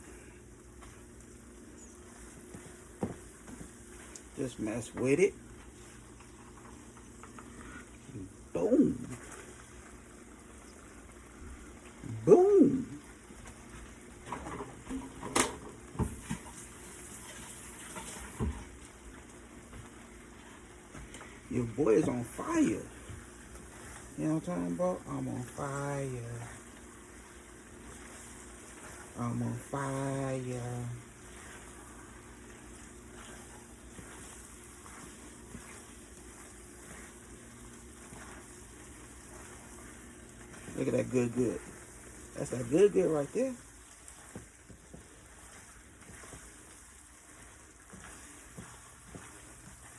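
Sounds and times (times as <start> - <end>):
faint steady hiss: 0.0 - 49.9
food sizzling in a hot pan: 6.0 - 20.6, 21.7 - 49.9.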